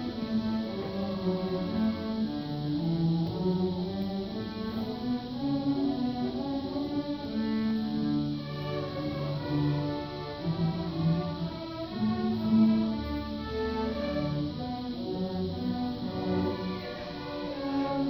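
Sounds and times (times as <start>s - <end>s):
string orchestra playing: 0.0s - 18.0s.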